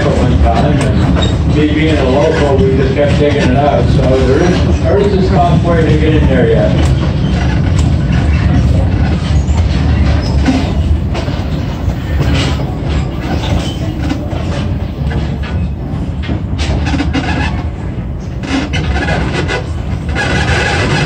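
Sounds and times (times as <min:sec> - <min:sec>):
train cars rumbling: 0:00.0 - 0:21.0
wheels clattering on rails: 0:00.0 - 0:21.0.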